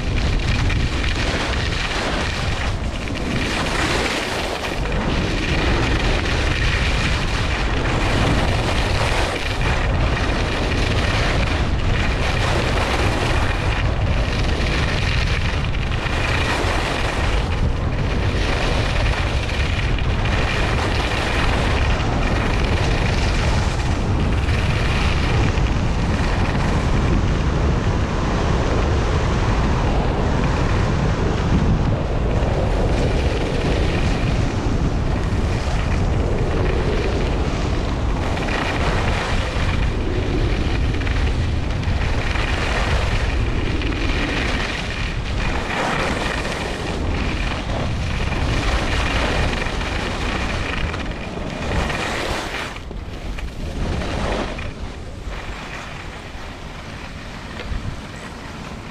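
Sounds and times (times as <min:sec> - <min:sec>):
wind buffeting microphone: 0:00.0 - 0:58.9
ski edges scraping snow: 0:00.1 - 0:26.9, 0:36.8 - 0:58.9.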